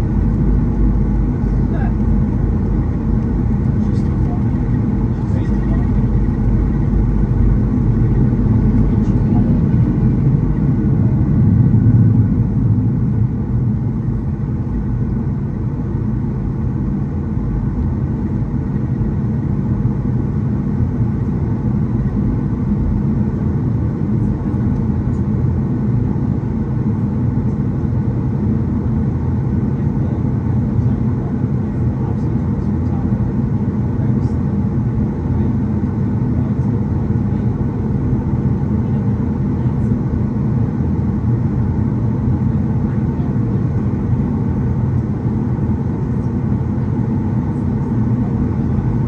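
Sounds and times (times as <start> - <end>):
jet engines rumbling in cabin: 0.0 - 49.0.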